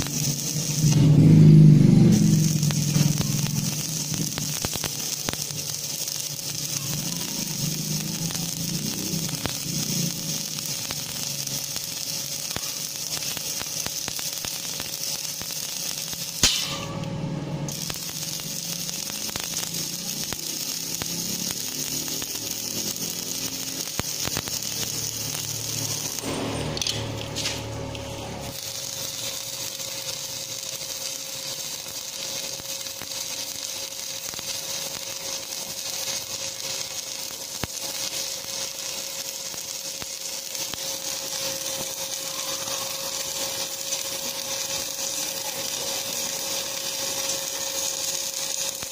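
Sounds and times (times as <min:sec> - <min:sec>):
arc welding crackling hiss: 0:00.0 - 0:48.9.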